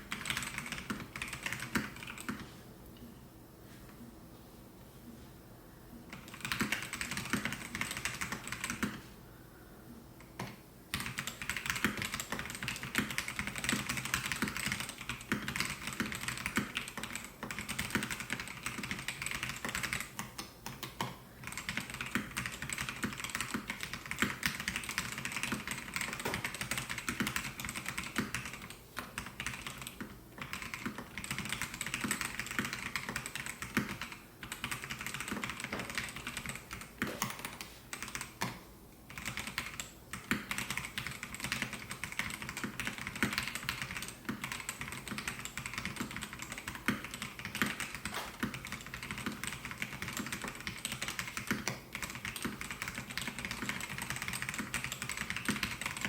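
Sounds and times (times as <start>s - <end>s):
mechanical keyboard typing: 0.0s - 2.5s, 6.1s - 9.0s, 10.2s - 38.5s, 39.1s - 56.0s.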